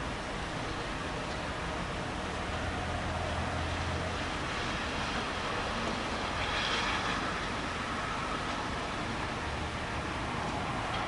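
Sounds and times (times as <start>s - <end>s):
hiss of rain: 0.0s - 11.0s.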